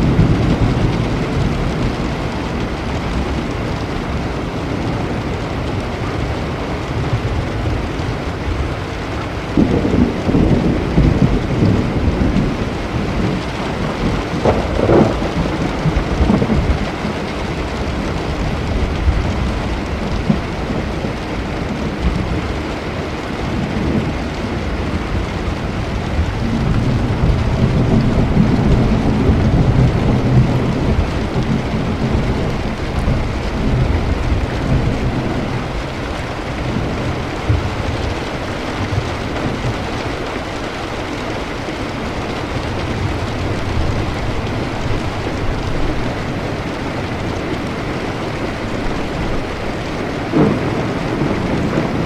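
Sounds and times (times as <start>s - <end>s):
rolling thunder: 0.0s - 52.0s
steady rain: 0.0s - 52.0s.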